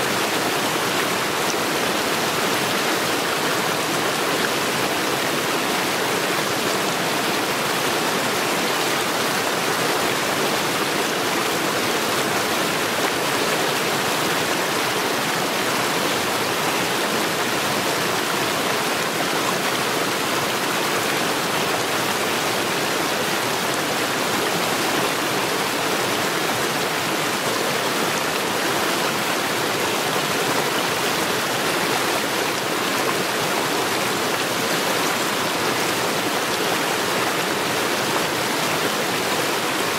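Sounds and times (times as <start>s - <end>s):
mountain stream rushing over rocks: 0.0s - 39.9s.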